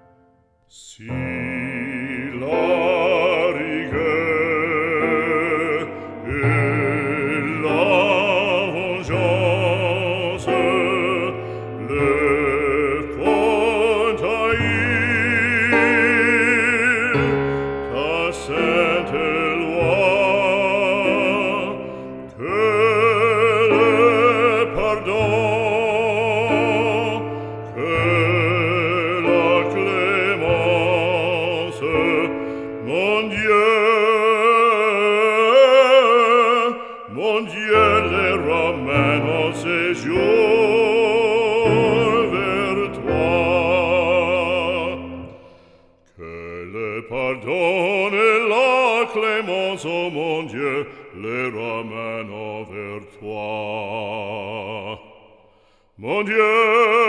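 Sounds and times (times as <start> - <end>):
piano accompaniment: 0.0 - 54.7
operatic singing: 0.0 - 57.0.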